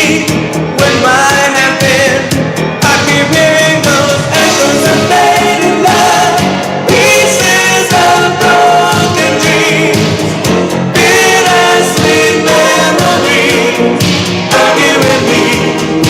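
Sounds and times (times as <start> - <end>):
pop song with sung vocals: 0.0 - 16.0.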